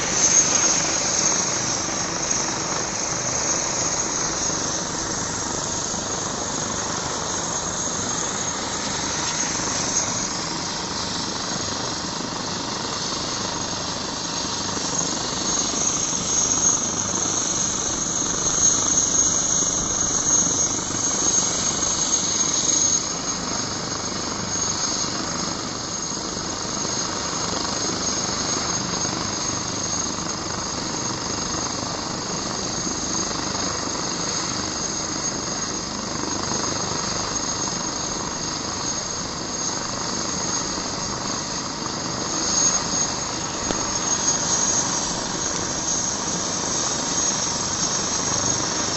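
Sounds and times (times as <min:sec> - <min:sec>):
helicopter turbine and rotors: 0:00.0 - 0:48.9.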